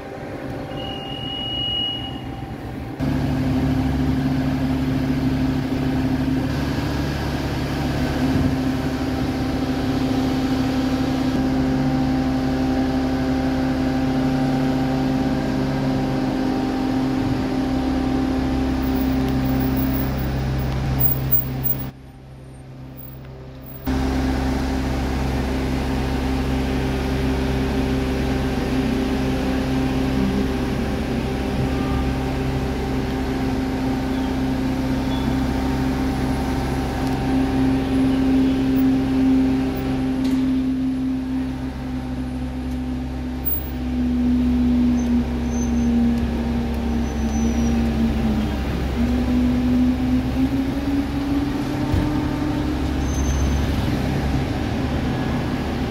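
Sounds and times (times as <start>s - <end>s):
heavy machinery engine humming: 0.0s - 55.9s.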